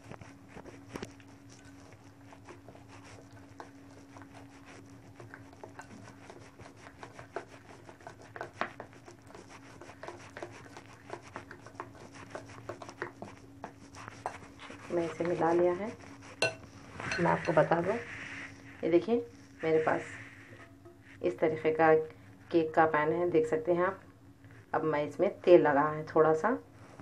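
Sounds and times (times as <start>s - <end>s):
spoon stirring batter in bowl: 0.0s - 23.0s.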